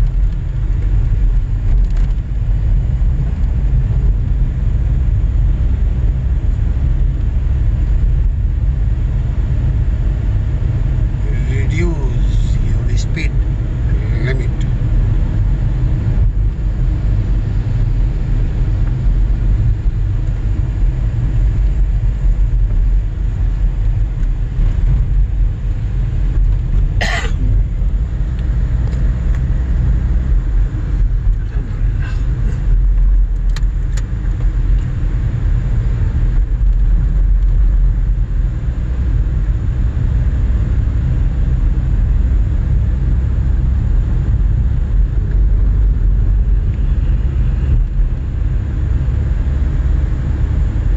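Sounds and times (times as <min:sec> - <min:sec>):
car driving interior rumble: 0:00.0 - 0:50.9.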